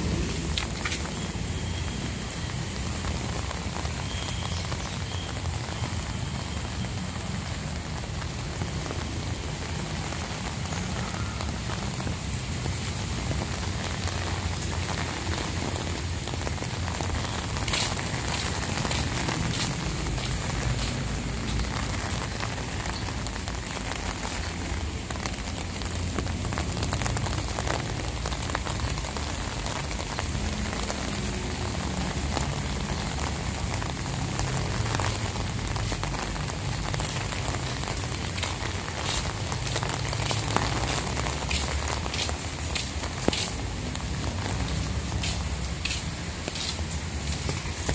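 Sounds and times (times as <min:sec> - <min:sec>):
leaves rustling: 0:08.2 - 0:31.7, 0:32.7 - 0:47.9.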